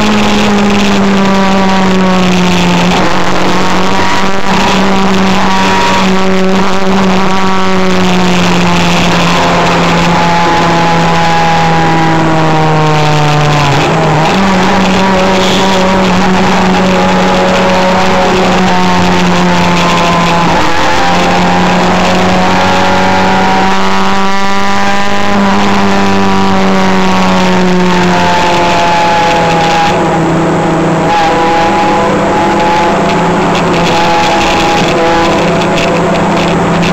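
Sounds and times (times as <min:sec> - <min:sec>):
car engine running hard: 0:00.0 - 0:36.9
road and wind noise: 0:00.0 - 0:36.9.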